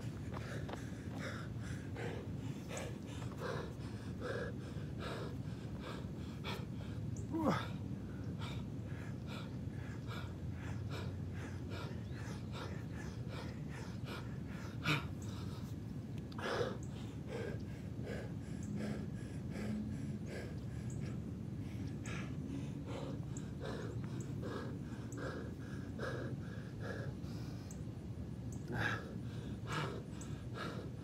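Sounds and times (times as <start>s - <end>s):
man breathing heavily and gasping: 0.0s - 27.8s, 28.6s - 31.0s.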